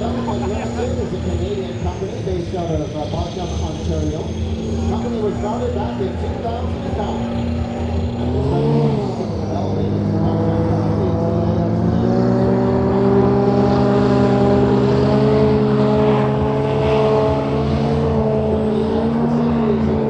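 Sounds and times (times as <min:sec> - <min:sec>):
vehicle engine running under load: 0:00.0 - 0:20.0.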